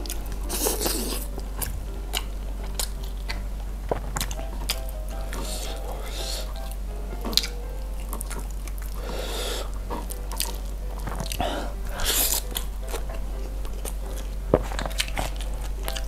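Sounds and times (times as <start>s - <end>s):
fingers squishing food: 0.0s - 16.0s
wet chewing: 0.0s - 16.0s.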